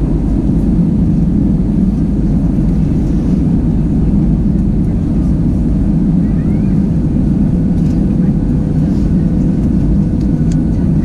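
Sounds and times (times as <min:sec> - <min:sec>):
airplane cabin engine roar: 0:00.0 - 0:11.0.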